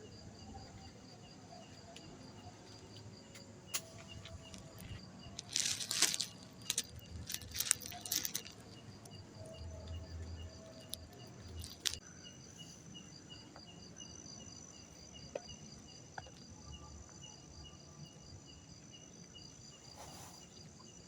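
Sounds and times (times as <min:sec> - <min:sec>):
crickets chirping: 0:00.0 - 0:21.0
steady high insect trill: 0:00.0 - 0:21.0.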